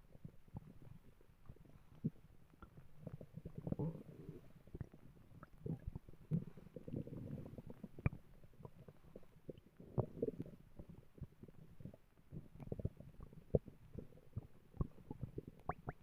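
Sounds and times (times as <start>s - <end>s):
stomach growling: 0.1s - 16.0s.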